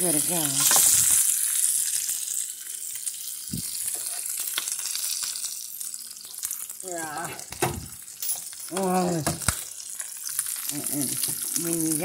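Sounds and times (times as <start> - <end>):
steaks sizzling in a frying pan: 0.0 - 12.0.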